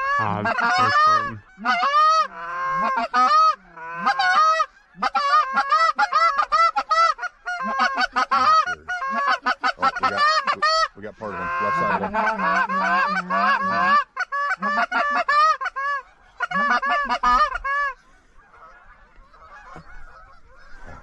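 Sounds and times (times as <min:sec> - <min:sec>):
goose calls honking and clucking: 0:00.0 - 0:21.0.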